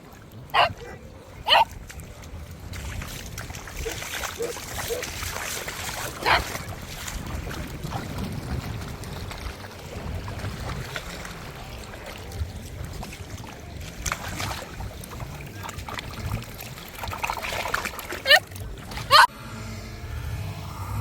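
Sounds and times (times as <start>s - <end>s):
wind buffeting microphone: 0.0s - 17.4s
water lapping: 0.0s - 19.3s.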